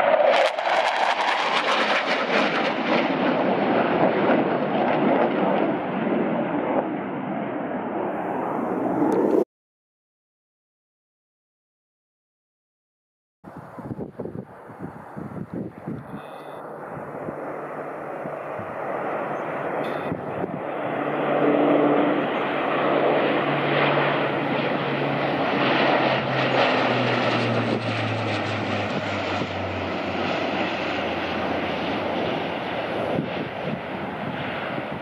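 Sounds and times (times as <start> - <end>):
turboprop plane flying past: 0.0 - 9.5, 13.5 - 35.0.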